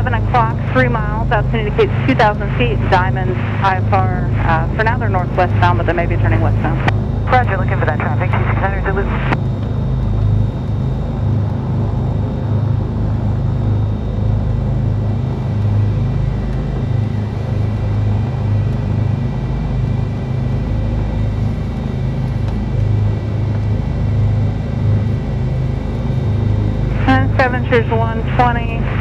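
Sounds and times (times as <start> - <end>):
aircraft engines idling drone: 0.0 - 29.0.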